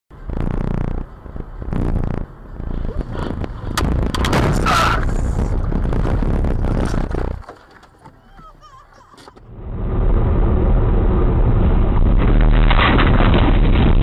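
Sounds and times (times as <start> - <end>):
loud vehicle noise: 0.1 - 7.9, 9.3 - 13.1.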